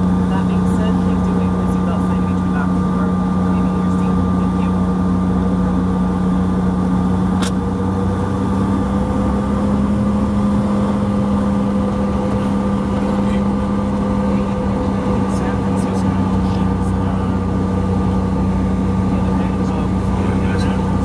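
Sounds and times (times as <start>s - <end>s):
jet engines humming in cabin: 0.0s - 21.0s.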